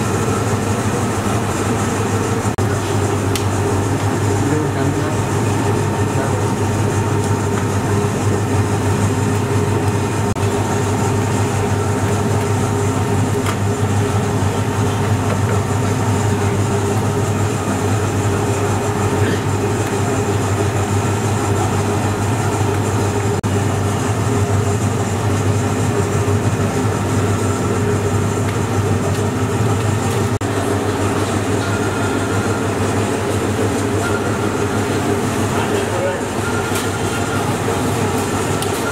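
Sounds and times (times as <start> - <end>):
low hum of machinery: 0.0 - 38.9.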